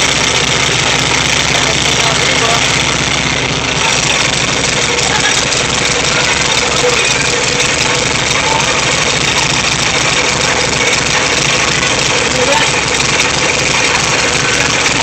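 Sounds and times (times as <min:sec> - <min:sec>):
air-cooled engine running: 0:00.0 - 0:15.0.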